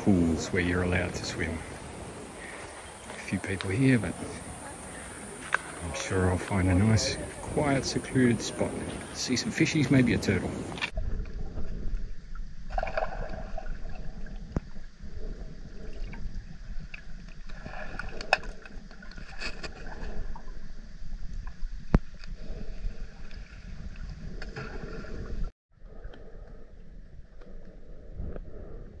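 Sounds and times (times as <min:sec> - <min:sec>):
muffled underwater rumble: 0:00.0 - 0:29.0.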